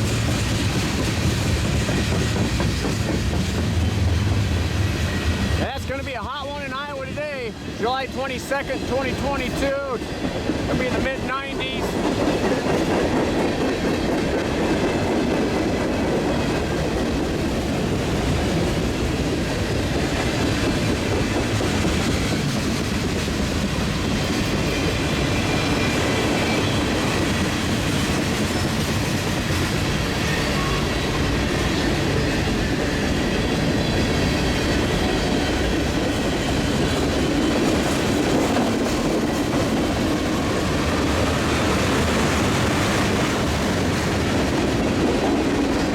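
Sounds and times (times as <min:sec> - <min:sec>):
clickety-clack over rail joints: 0:00.0 - 0:45.9
train wheels rumbling: 0:00.0 - 0:45.9.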